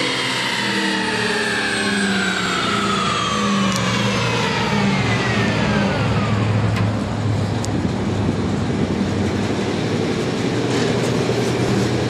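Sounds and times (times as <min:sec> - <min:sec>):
engine and dyno rollers rumbling: 0:00.0 - 0:12.0.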